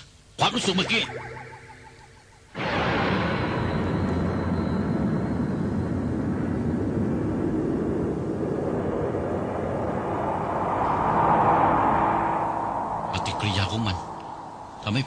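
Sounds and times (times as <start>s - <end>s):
loud rushing rumble: 2.6s - 15.0s.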